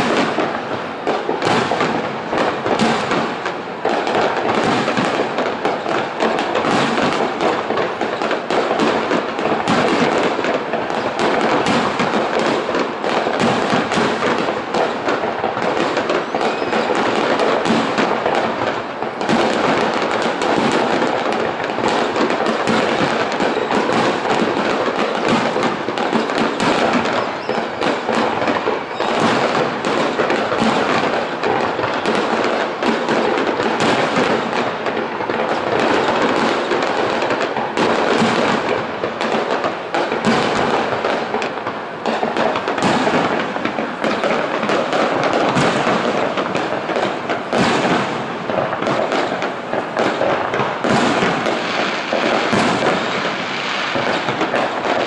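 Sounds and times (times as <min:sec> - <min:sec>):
fireworks bursting with crackle: 0:00.0 - 0:55.0.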